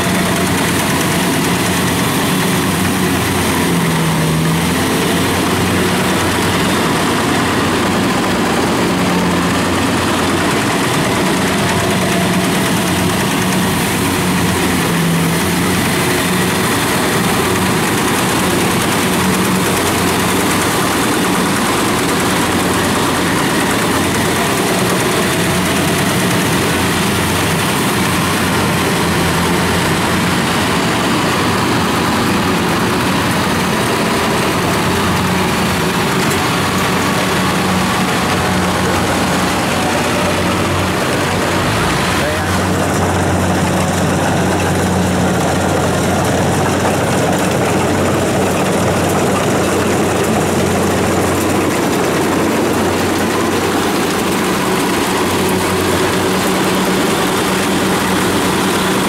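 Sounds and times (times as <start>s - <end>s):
combine harvester diesel engine: 0.0s - 59.0s
tracked carrier engine: 0.0s - 59.0s.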